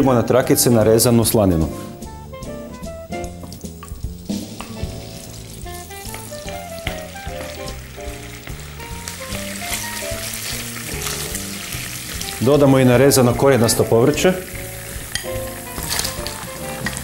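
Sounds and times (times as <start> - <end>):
background music: 0.0 - 17.0
bacon sizzling in a pan: 2.0 - 17.0.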